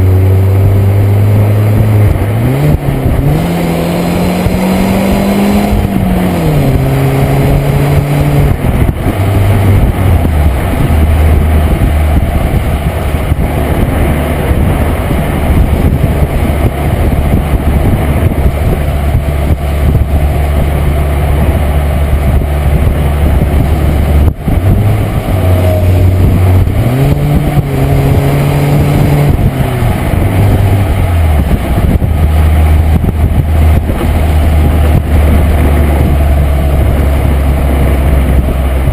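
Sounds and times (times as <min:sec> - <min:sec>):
car engine and exhaust running: 0:00.0 - 0:38.9.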